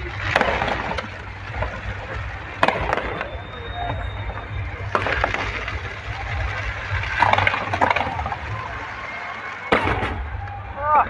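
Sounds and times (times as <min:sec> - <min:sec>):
fireworks cracks and bangs: 0:00.0 - 0:10.8
continuous crackle: 0:00.0 - 0:11.0.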